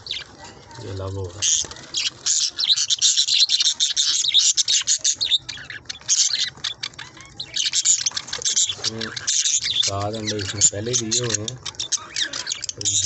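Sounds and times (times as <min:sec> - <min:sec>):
budgerigars chattering: 0:00.0 - 0:00.3, 0:00.9 - 0:13.0.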